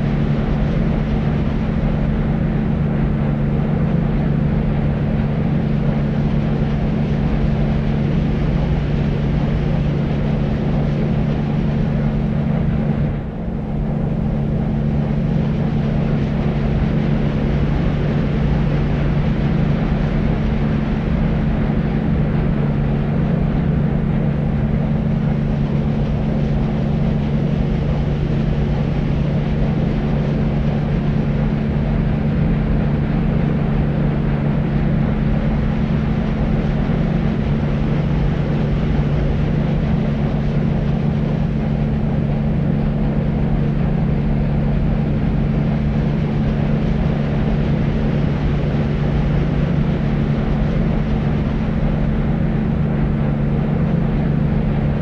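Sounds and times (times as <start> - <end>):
deep white noise: 0.0 - 55.0
low hum: 0.0 - 55.0.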